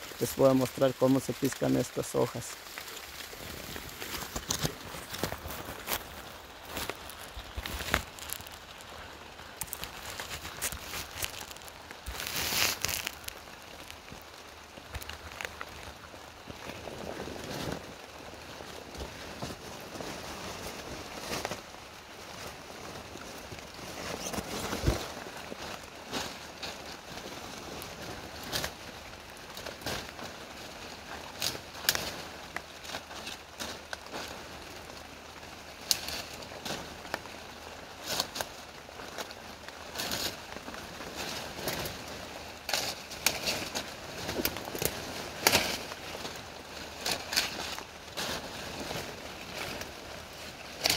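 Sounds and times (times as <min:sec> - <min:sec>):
crackling leaves and stems: 0:00.0 - 0:50.9
footsteps through brush: 0:00.0 - 0:50.9
rain hiss: 0:00.0 - 0:50.9.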